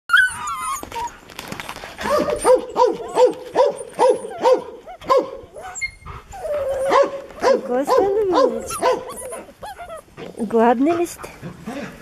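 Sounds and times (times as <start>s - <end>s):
puppies yipping: 0.1s - 11.0s.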